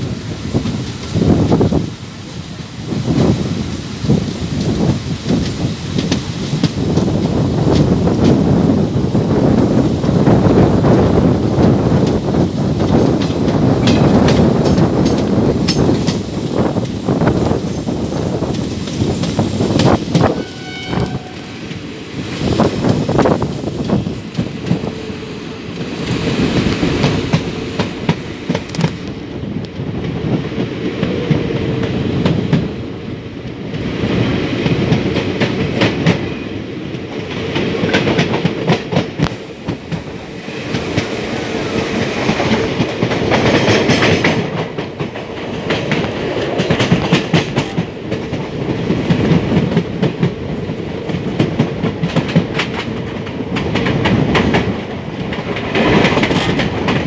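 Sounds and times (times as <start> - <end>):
clickety-clack over rail joints: 0.0 - 2.4, 3.0 - 57.0
train wheels rumbling on track: 0.0 - 57.0.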